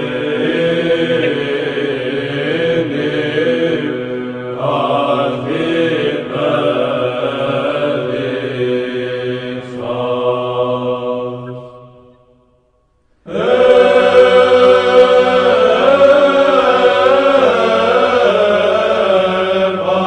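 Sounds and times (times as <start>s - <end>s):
chant melody sung: 0.0s - 20.0s.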